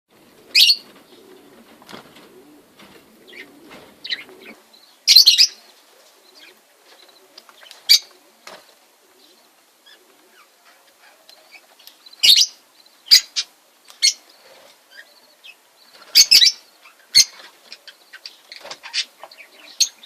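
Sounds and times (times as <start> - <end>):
aviary birds chirping: 0.2 - 20.0.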